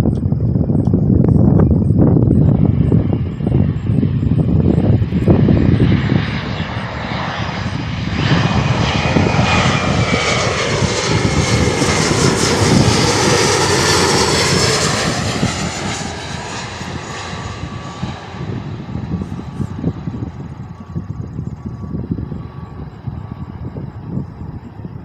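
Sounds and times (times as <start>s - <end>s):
wind buffeting microphone: 0.0s - 25.0s
airliner engine passing: 0.2s - 25.0s.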